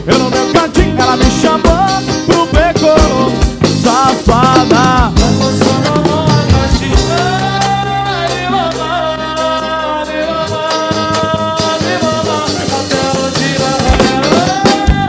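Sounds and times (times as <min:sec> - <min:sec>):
bass: 0:00.0 - 0:15.0
drums: 0:00.0 - 0:15.0
sliding lead melody: 0:00.0 - 0:15.0.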